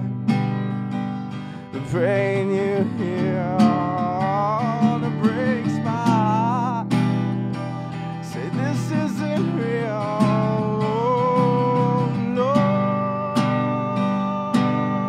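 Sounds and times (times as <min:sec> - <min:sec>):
acoustic guitar strummed: 0:00.0 - 0:15.0
wordless vocal melody: 0:00.0 - 0:15.0.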